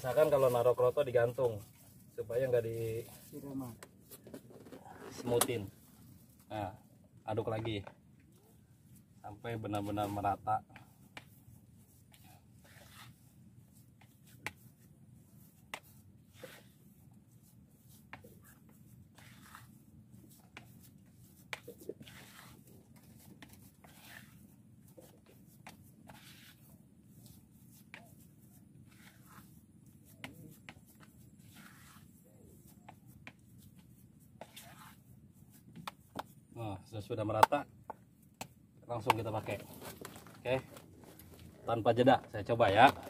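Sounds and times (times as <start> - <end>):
hands kneading bait dough: 0.0 - 43.0
low steady background hum: 0.0 - 43.0.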